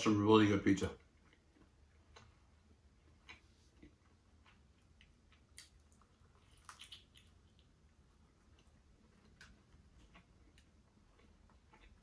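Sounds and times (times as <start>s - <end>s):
soft biting and chewing clicks: 1.0s - 12.0s.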